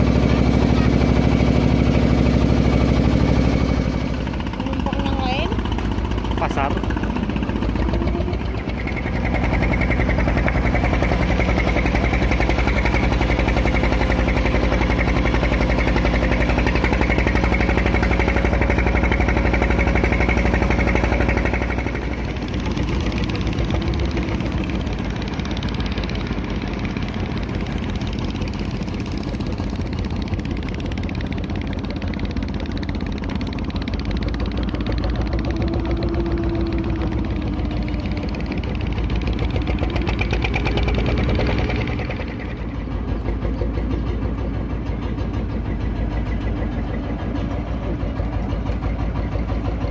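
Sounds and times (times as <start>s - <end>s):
boat engine running: 0.0s - 49.9s.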